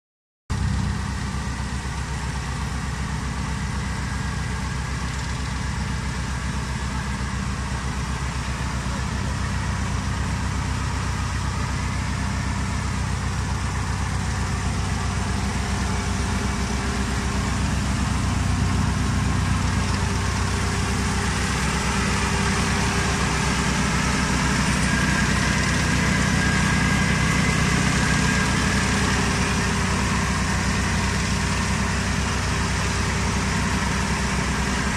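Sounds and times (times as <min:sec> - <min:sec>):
harvester engine running: 0:00.5 - 0:34.9.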